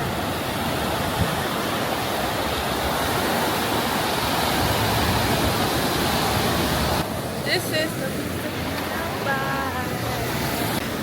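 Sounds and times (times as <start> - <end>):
waves washing on beach: 0.0 - 11.0.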